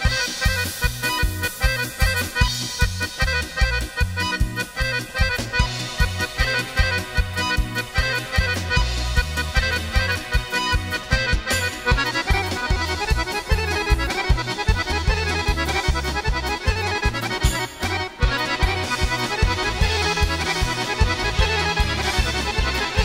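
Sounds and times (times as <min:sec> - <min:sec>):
bass and drum beat: 0:00.0 - 0:23.0
fast accordion melody: 0:00.0 - 0:23.0.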